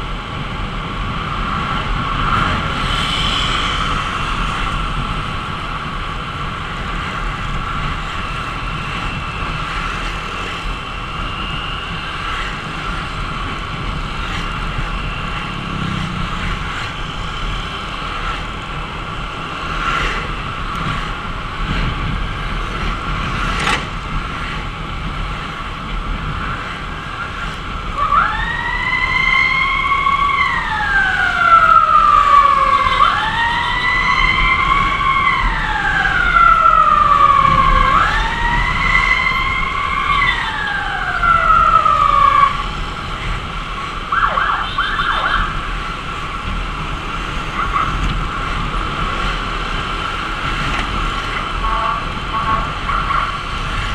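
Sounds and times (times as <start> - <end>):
motorcycle riding in traffic: 0.0 - 53.9
emergency siren wailing: 1.0 - 23.6, 26.3 - 53.9.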